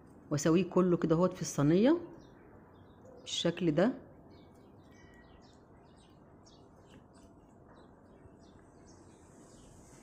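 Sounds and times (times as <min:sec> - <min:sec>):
faint bird chirps: 0:01.4 - 0:10.0.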